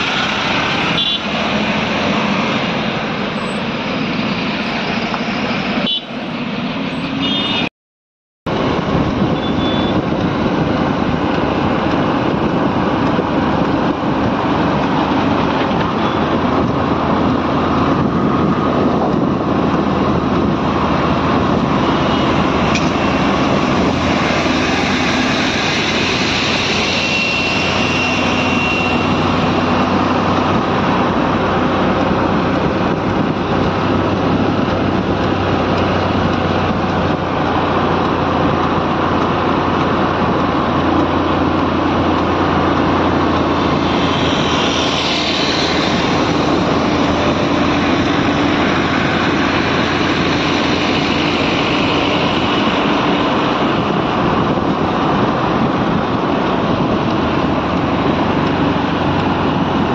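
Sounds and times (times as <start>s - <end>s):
highway traffic engine and tyre noise: 0.0s - 7.7s, 8.5s - 59.9s.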